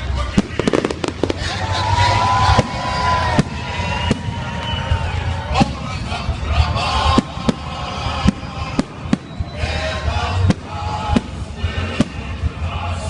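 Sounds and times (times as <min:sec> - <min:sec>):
murmur of voices: 0:00.0 - 0:13.0
fireworks bangs: 0:00.2 - 0:12.6.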